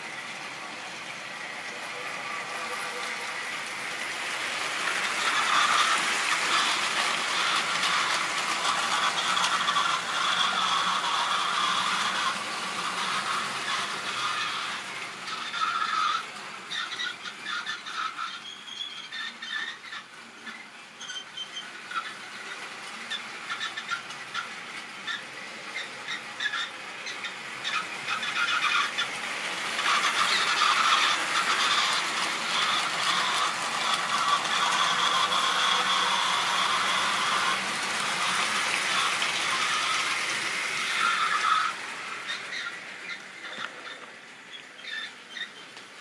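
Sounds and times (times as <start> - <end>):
model locomotive motor running: 0.0 - 46.0
model train wheels clicking: 0.0 - 46.0.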